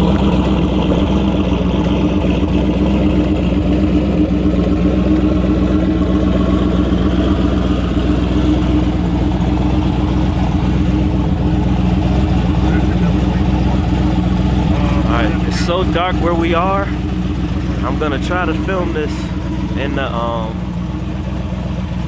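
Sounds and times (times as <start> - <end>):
car engine idling loudly: 0.0 - 22.0.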